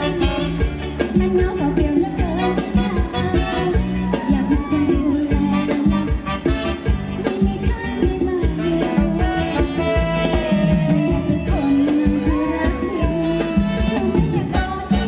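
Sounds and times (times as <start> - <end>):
band playing dance music: 0.0 - 15.0
driving drum beat: 0.0 - 15.0.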